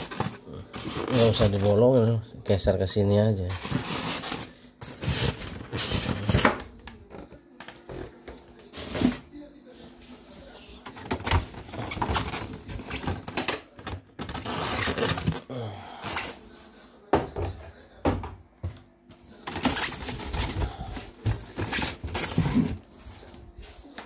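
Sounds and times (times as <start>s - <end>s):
cardboard and plastic rustling: 0.0s - 2.0s, 3.3s - 17.8s, 18.7s - 24.0s.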